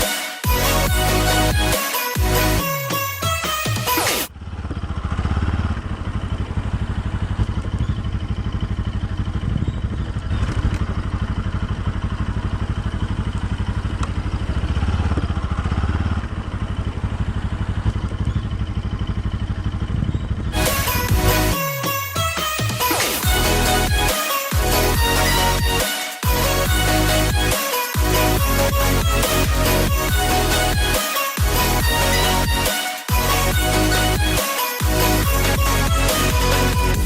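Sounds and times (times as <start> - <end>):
engine running with low pulsing: 0.0 - 2.7, 4.3 - 37.0.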